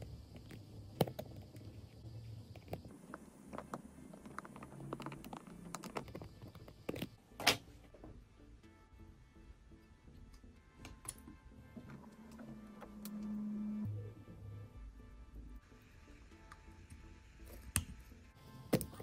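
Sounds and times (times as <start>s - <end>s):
soft background music: 0.1s - 19.0s.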